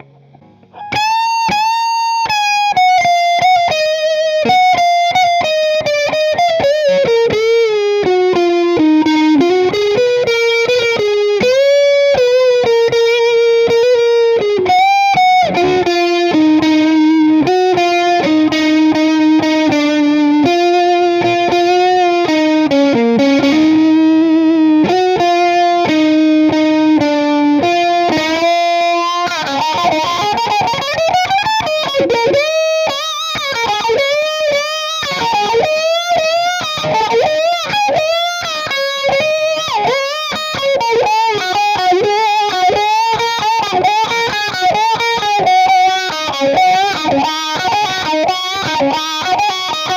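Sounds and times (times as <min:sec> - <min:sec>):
overdriven electric guitar lead melody: 0:00.0 - 0:49.9.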